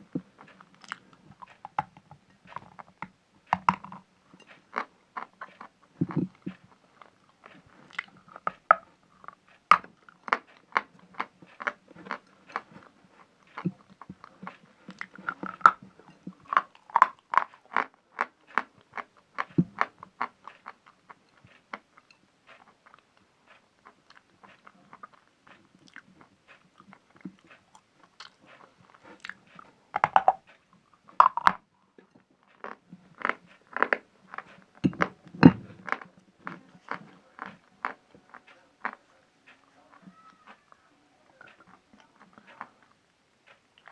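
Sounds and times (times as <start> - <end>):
crunching and chewing chalk: 0.0 - 43.9.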